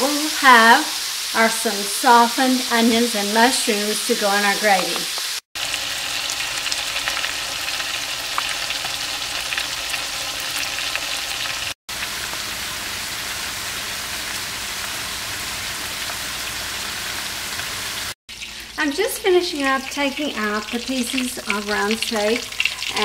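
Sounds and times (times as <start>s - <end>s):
meat frying in oil: 0.0s - 23.0s
onions and mushrooms sizzling: 0.0s - 23.0s.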